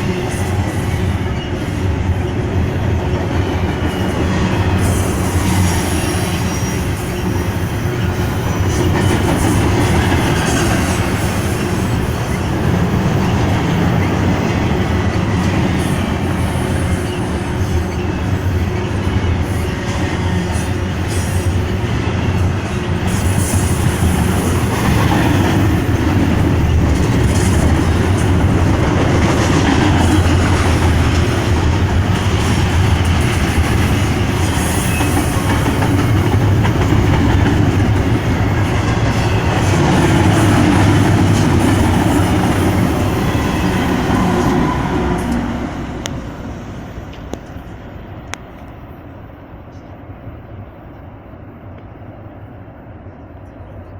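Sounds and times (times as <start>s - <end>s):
freight train wheels rattling on rail: 0.0s - 53.9s.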